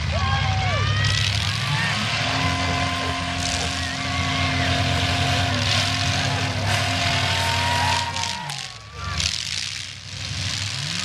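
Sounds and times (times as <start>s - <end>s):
car engines revving high: 0.0s - 11.0s.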